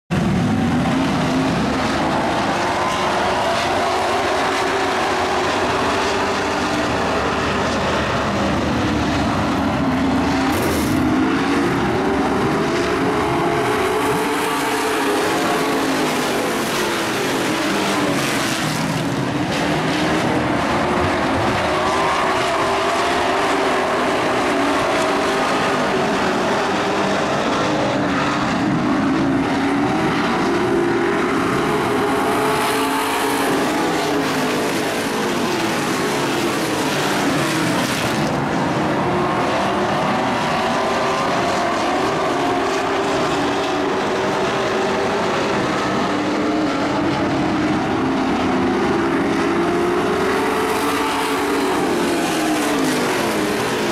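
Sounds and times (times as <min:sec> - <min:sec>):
race truck engines revving: 0:00.1 - 0:53.9.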